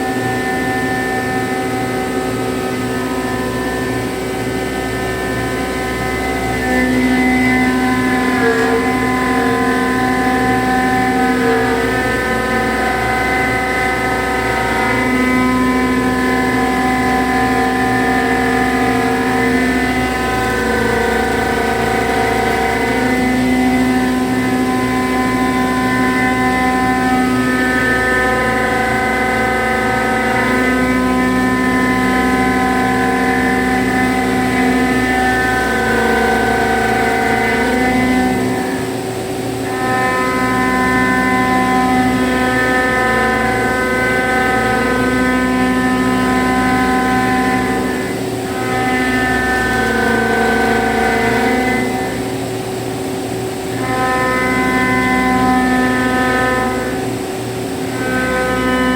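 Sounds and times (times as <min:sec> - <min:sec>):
milling machine whine: 0:00.0 - 0:58.9.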